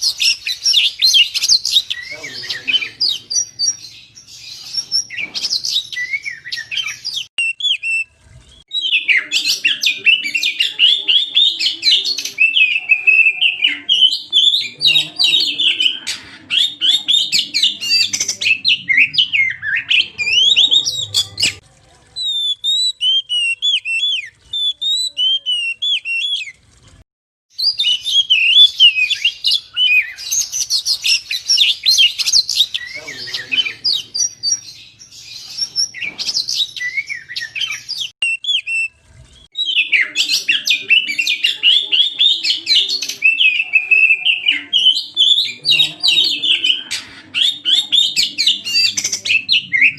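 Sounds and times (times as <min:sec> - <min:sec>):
bird song with whistles and chatter: 0:00.0 - 0:21.6, 0:22.2 - 0:26.6, 0:27.6 - 0:49.9.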